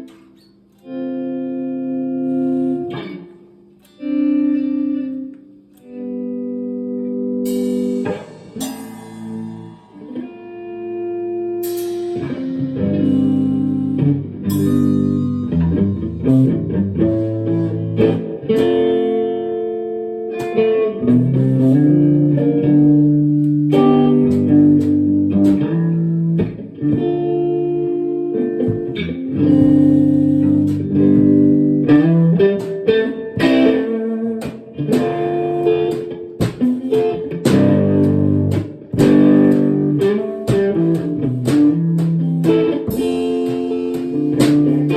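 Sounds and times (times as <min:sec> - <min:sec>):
bass guitar: 0:00.0 - 0:44.9
electric guitar chords: 0:00.0 - 0:44.9.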